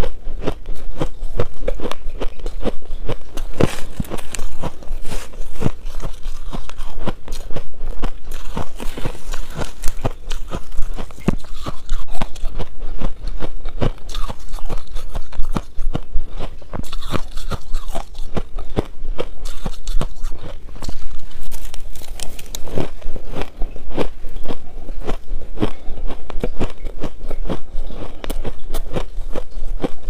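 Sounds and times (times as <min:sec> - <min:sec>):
chewing crunchy ice: 0:00.0 - 0:30.0.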